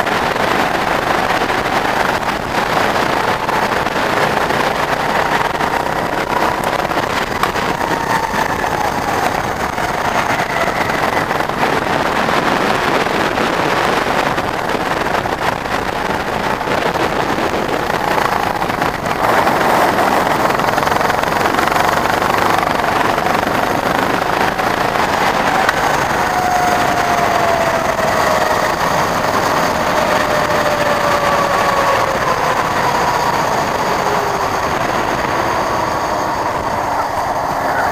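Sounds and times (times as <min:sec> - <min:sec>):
go-kart engine revving: 0:00.0 - 0:37.9
wind noise on microphone: 0:00.0 - 0:37.9.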